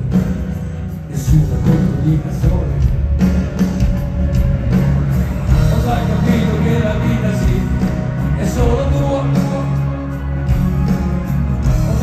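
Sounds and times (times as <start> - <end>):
live rock band over pa: 0.0 - 12.0.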